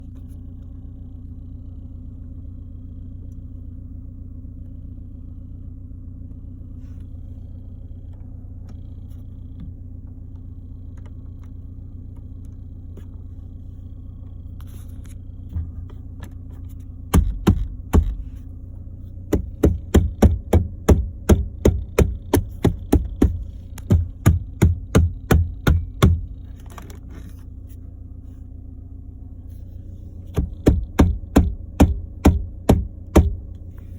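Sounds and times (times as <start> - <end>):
car engine humming: 0.0 - 33.9.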